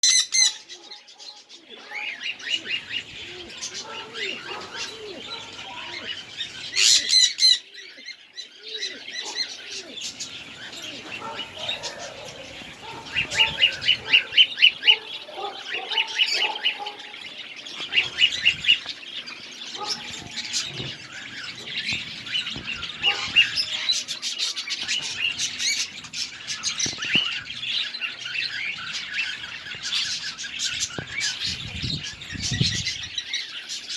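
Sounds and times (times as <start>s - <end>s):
birds chirping and calling: 0.0s - 33.9s.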